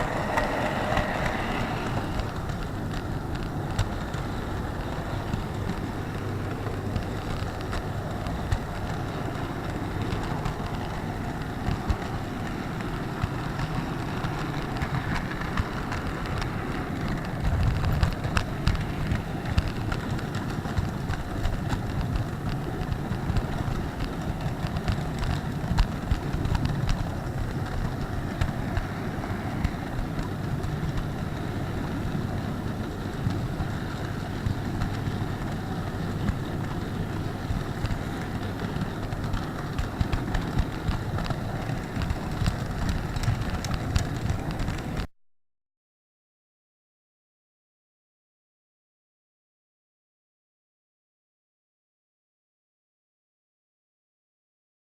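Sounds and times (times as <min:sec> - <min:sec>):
model train rumbling on track: 0:00.0 - 0:45.1.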